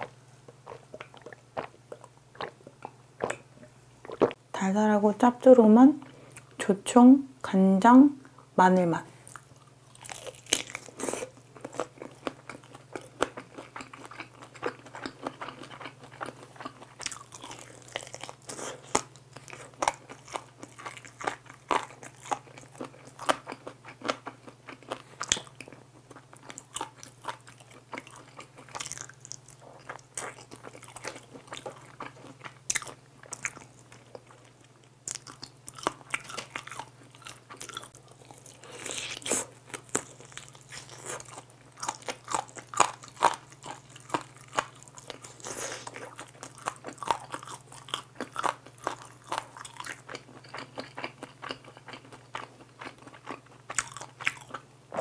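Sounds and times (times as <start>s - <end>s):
crunching and chewing chicken: 9.2s - 55.0s.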